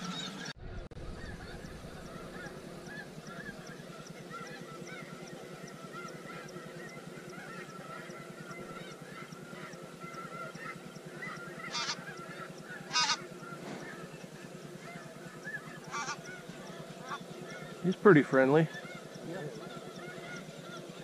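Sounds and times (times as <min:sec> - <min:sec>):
flock of geese honking: 0:00.0 - 0:21.0.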